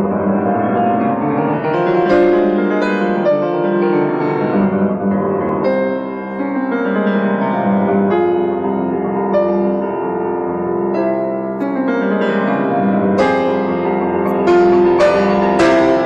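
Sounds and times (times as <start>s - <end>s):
grand piano playing: 0.0s - 16.0s.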